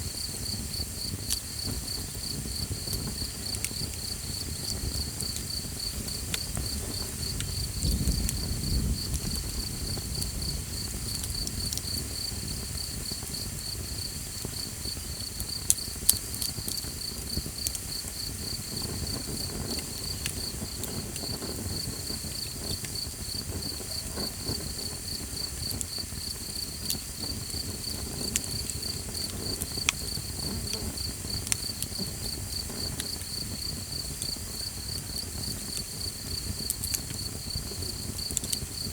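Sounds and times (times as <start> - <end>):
campfire crackling and popping: 0.0 - 38.9
insects chirping trill: 0.1 - 38.9.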